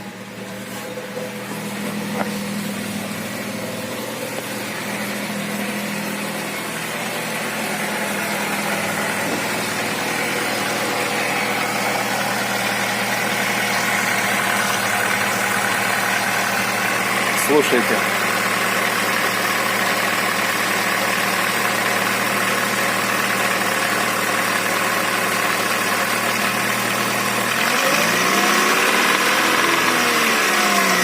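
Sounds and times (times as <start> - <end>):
petrol engine running: 0.0 - 31.0.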